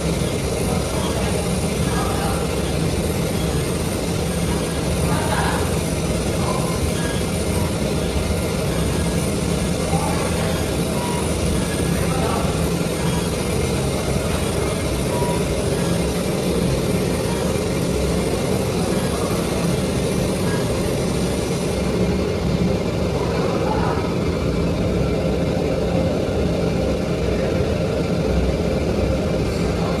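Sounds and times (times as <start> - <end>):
cutting machine drone: 0.0 - 26.9.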